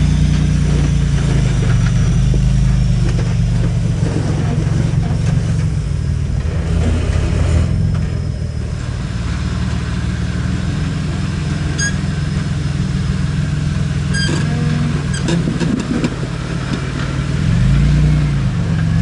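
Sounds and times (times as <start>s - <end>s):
buggy engine at low revs: 0.0s - 19.0s.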